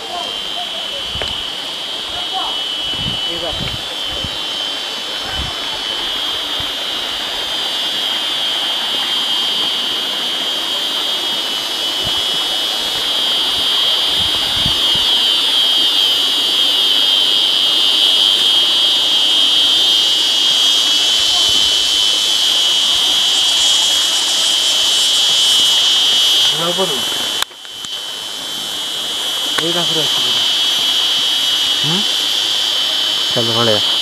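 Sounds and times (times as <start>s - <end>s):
cicadas buzzing: 0.0s - 34.0s.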